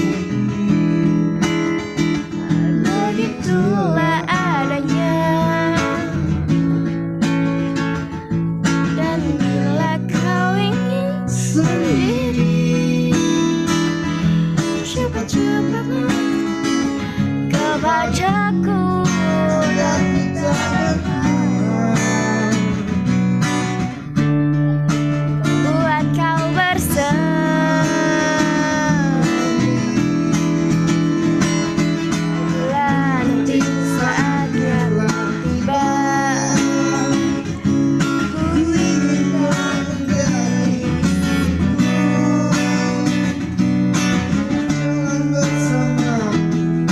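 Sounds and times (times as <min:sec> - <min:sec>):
strummed and plucked guitar: 0:00.0 - 0:46.9.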